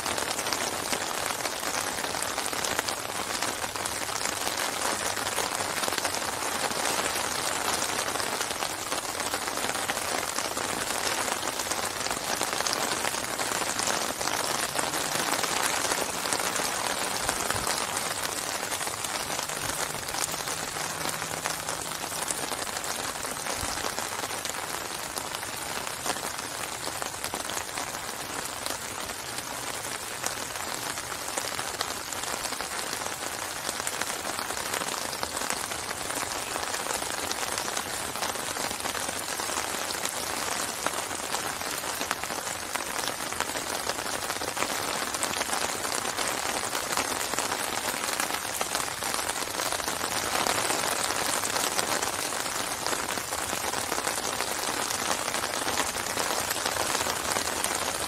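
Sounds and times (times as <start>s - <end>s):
rain falling on lake water: 0.0s - 58.0s.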